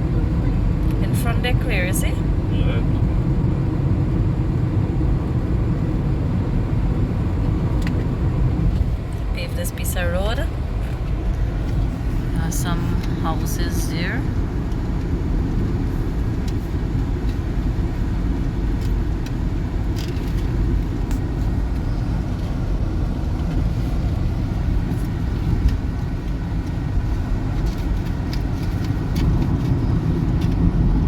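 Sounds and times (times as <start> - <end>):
car cabin road noise: 0.0 - 31.0.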